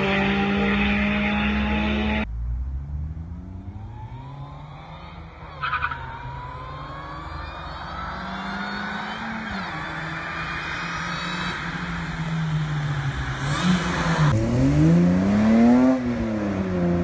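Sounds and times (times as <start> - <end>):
car engine pitch rising: 0.0 - 17.0.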